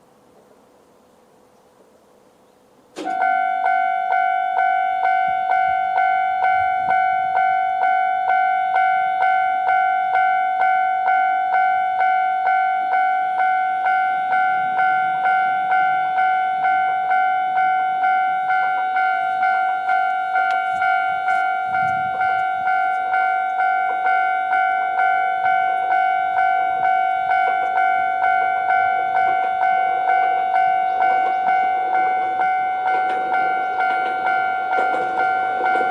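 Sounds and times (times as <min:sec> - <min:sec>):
level-crossing warning bell: 0:01.0 - 0:35.9.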